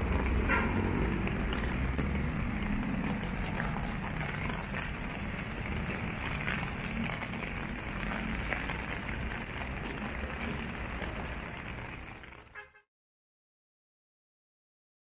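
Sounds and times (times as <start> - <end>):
low rumble of traffic: 0.0 - 12.8
rain hissing on wet roads: 0.0 - 12.8.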